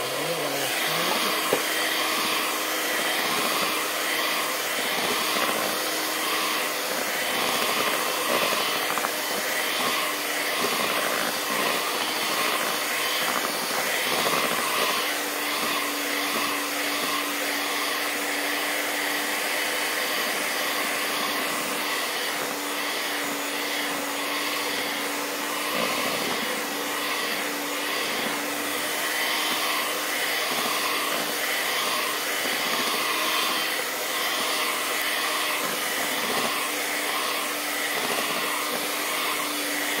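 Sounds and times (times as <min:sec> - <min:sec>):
electric hand mixer whisking batter: 0:00.0 - 0:40.0.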